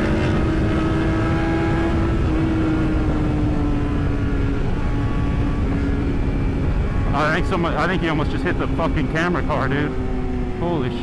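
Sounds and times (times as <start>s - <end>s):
motorbike engine at high revs: 0.0s - 11.0s
wind noise rushing: 0.0s - 11.0s.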